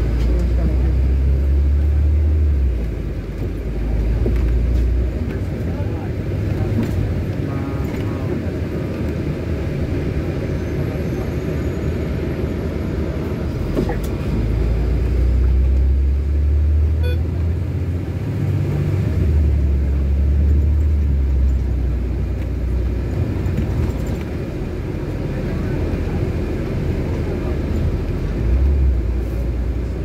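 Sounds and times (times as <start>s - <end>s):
bus engine and road rumble: 0.0s - 30.0s
deep engine drone: 0.0s - 30.0s.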